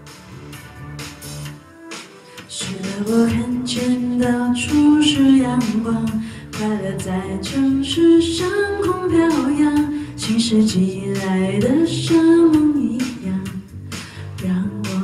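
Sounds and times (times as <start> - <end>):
musical accompaniment: 0.0 - 15.0
woman singing: 2.4 - 15.0.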